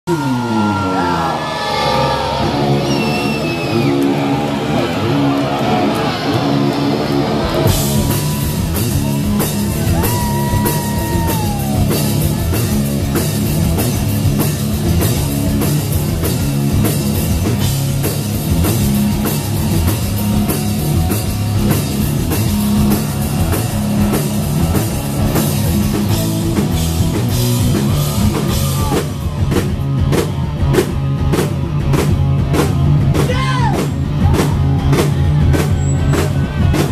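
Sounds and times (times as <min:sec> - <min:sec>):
drum kit: 0:00.1 - 0:36.9.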